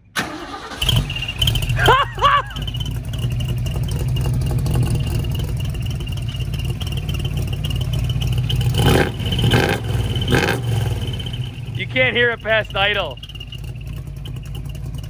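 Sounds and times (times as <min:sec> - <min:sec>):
engine idling rumble: 0:00.0 - 0:15.0.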